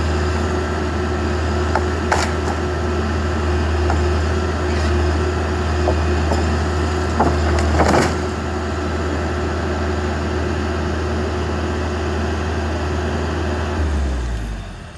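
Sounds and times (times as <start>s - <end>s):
backhoe engine droning: 0.0s - 14.9s.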